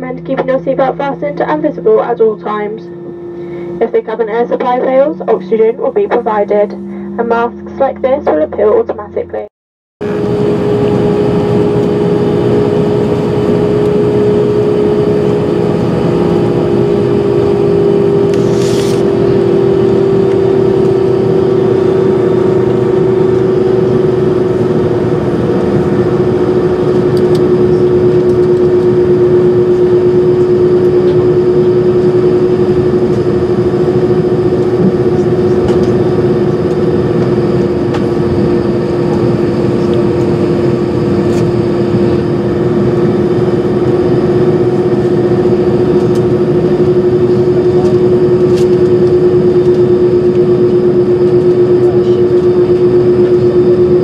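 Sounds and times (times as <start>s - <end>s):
jet engines droning: 0.0s - 54.0s.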